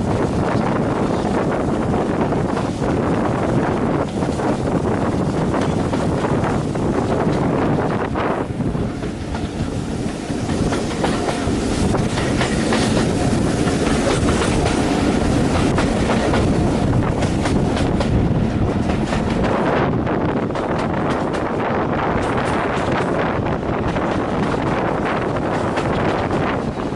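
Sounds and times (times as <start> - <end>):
railway carriage rumbling on track: 0.0 - 26.9.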